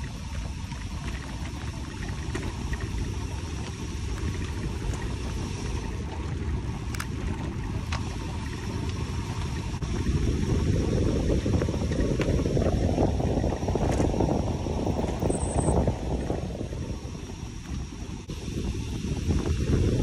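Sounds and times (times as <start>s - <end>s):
bicycle road noise: 0.0s - 20.0s
wind rumble on microphone: 0.0s - 20.0s.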